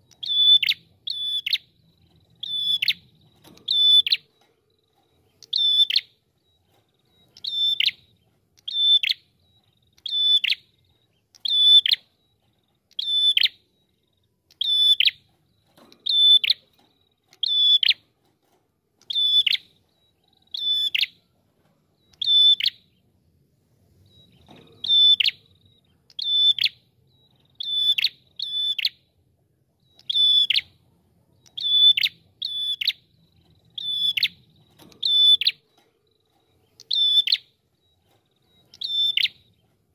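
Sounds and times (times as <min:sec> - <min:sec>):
bird calling with sharp high notes: 0:00.0 - 0:18.0, 0:19.0 - 0:21.3, 0:22.0 - 0:23.1, 0:24.0 - 0:29.1, 0:29.8 - 0:30.8, 0:31.4 - 0:39.7.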